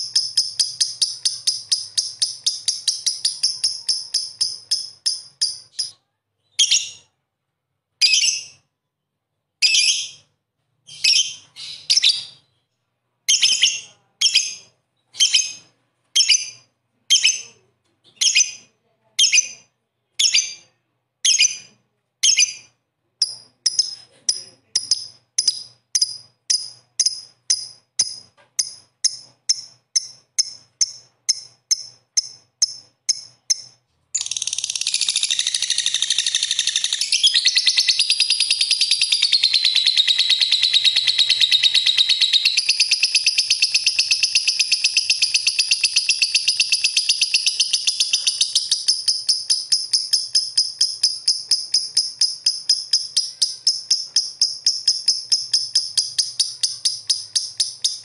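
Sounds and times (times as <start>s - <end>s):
bird chirping and trilling: 0.0s - 7.1s, 8.0s - 8.7s, 9.6s - 12.7s, 13.3s - 58.0s.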